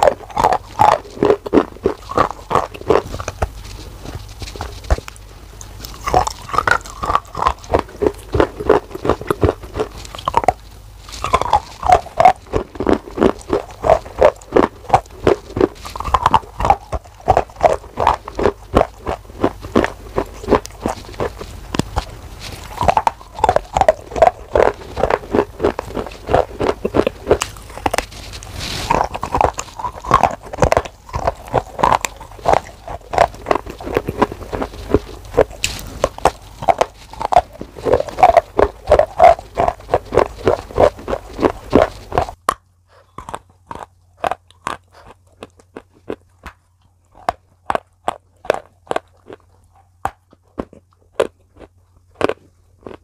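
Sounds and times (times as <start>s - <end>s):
crunchy wet chewing: 0.0s - 53.0s.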